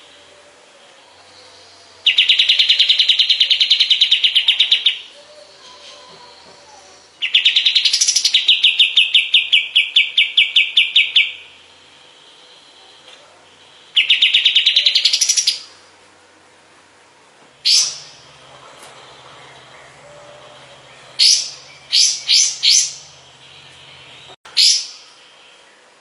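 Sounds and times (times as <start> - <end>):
songbird calling in sharp notes: 1.0 - 15.8, 17.6 - 18.4, 19.0 - 25.9.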